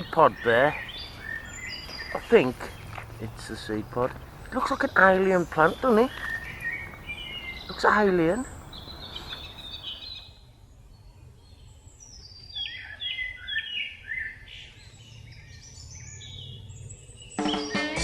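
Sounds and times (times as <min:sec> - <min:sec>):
birds chirping and singing: 0:00.0 - 0:18.0.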